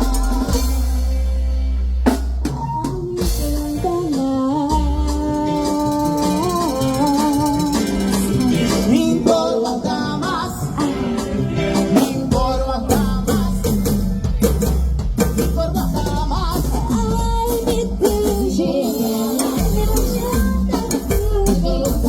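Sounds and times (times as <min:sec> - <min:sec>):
person singing: 0:00.0 - 0:01.4, 0:02.5 - 0:14.2, 0:15.4 - 0:22.0
latin band music: 0:00.0 - 0:22.0.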